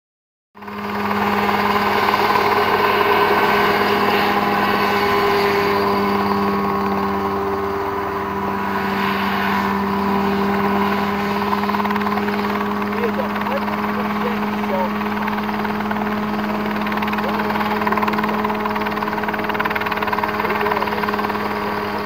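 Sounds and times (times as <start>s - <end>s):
helicopter engine and rotor drone: 0.6s - 22.0s.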